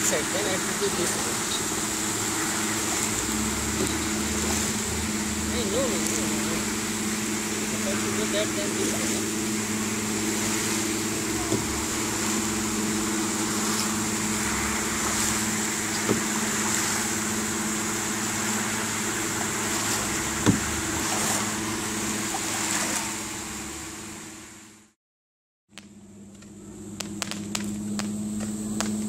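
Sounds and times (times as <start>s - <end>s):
motor hum: 0.0s - 24.9s, 25.7s - 29.0s.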